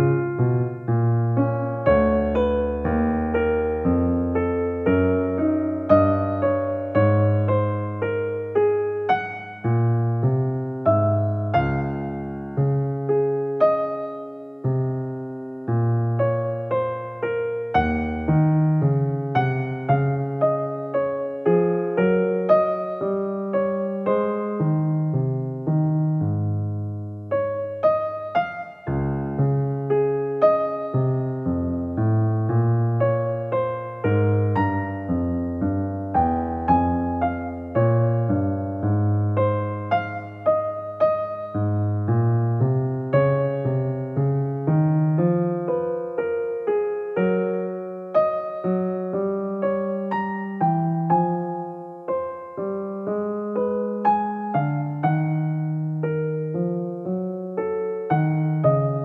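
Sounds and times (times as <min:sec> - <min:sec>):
piano keyboard tune: 0:00.0 - 0:59.0.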